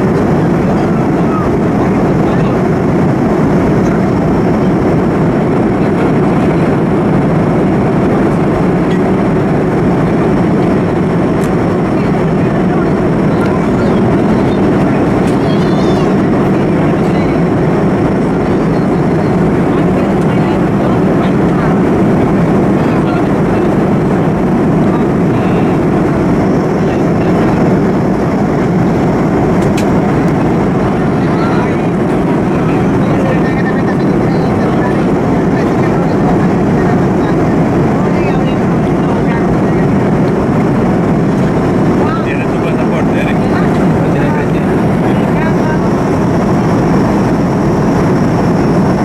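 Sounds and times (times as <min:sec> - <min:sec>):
airflow rushing over aircraft cabin: 0:00.0 - 0:49.0
turbofan engines: 0:00.0 - 0:49.0
faint high whine: 0:09.8 - 0:49.0.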